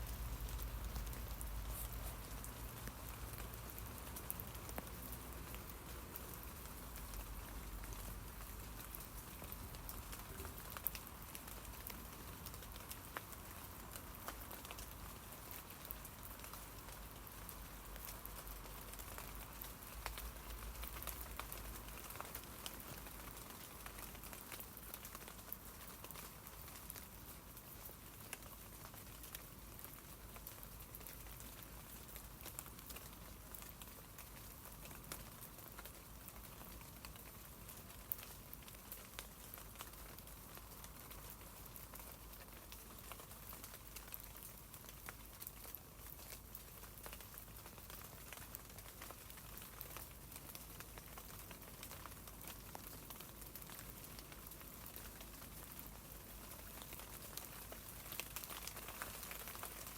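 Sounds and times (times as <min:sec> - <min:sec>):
light rain pattering on leaves: 0:00.0 - 0:59.9.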